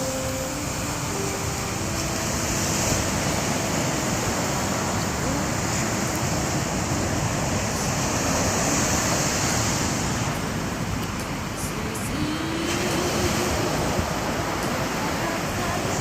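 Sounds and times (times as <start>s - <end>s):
sea surf washing on beach: 0.0s - 16.0s.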